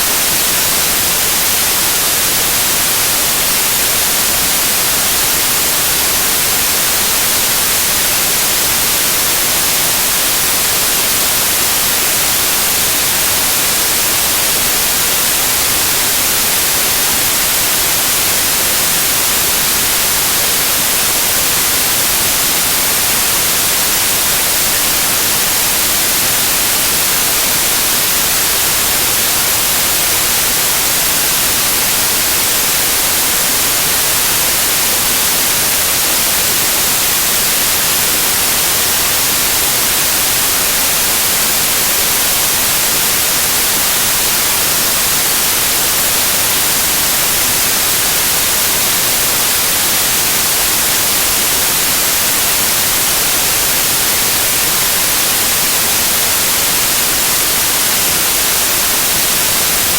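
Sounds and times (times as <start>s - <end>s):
loud white noise hiss: 0.0s - 59.9s.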